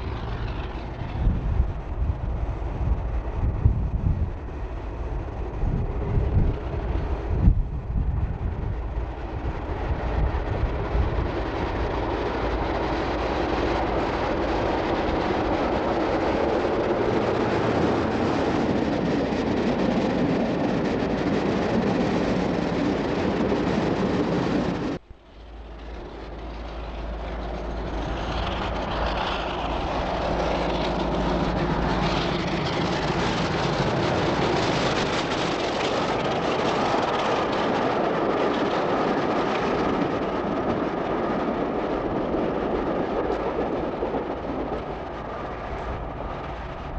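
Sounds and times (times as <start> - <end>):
diesel train passing: 0.0 - 46.9.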